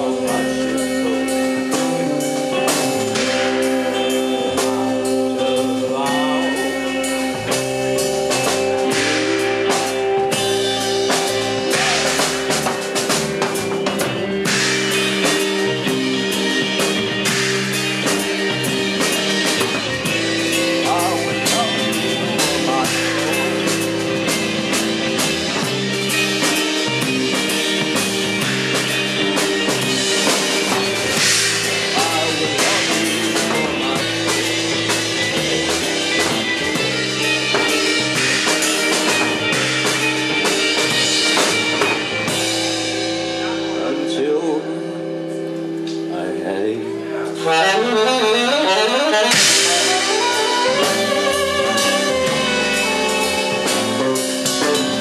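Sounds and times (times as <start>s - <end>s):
bass guitar: 0.0s - 55.0s
drum kit drumming: 0.0s - 55.0s
electric guitars: 0.0s - 55.0s.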